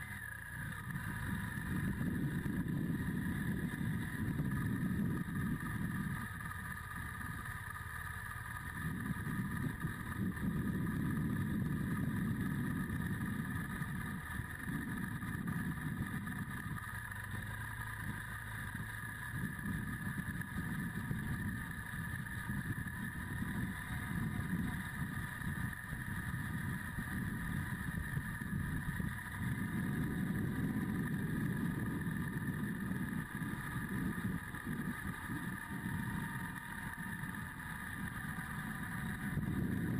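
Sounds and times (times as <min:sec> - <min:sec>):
motorcycle engine rumble: 0:00.0 - 0:39.9
steady high whine: 0:00.0 - 0:39.9.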